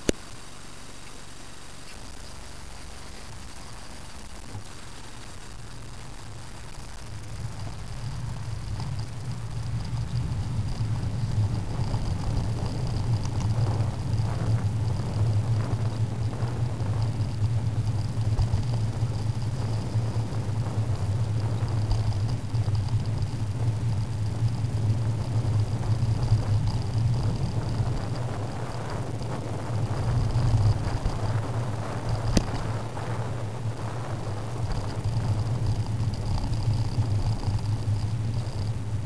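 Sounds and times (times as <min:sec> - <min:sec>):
road and wind rumble: 0:00.0 - 0:39.0.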